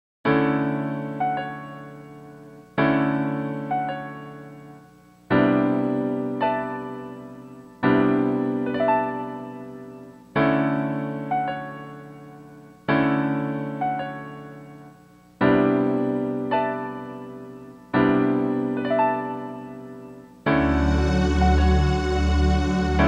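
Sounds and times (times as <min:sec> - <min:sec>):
slow piano music: 0:00.3 - 0:23.0.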